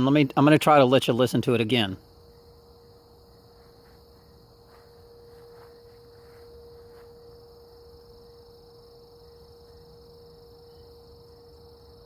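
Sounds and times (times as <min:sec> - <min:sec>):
faint steady humming tone: 0:00.0 - 0:12.0
night insects buzzing: 0:00.0 - 0:12.0.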